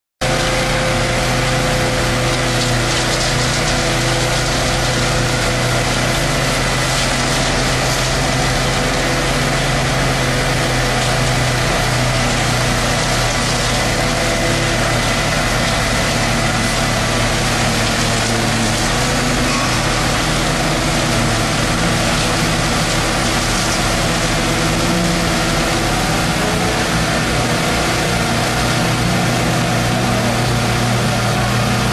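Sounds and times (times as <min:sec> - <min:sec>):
heavy machinery engines droning: 0:00.2 - 0:31.9.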